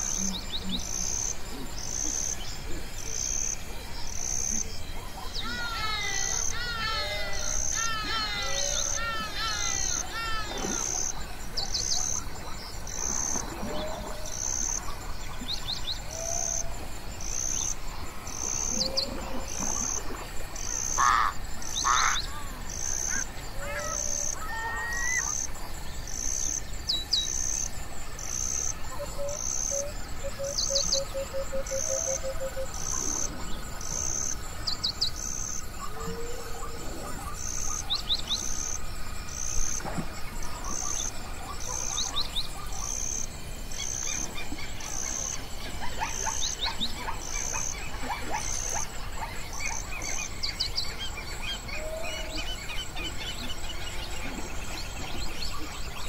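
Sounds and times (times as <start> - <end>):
insect chirping in even pulse: 0.0 - 56.0.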